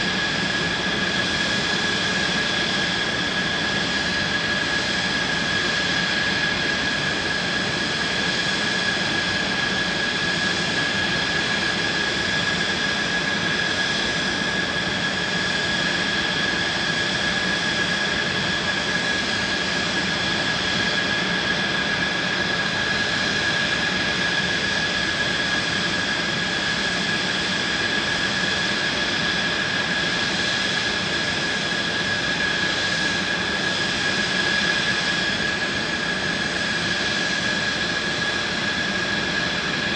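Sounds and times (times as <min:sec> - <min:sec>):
jet engine idling whine and roar: 0:00.0 - 0:39.9.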